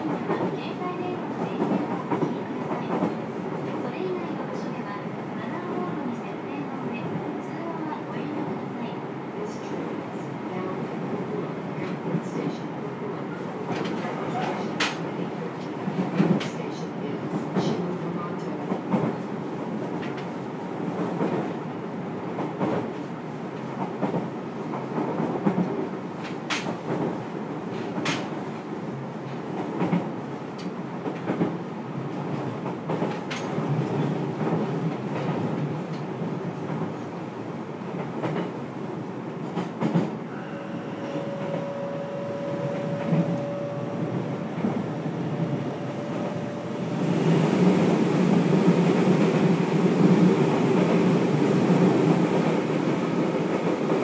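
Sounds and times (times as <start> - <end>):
train wheel-on-rail noise: 0.0 - 54.0.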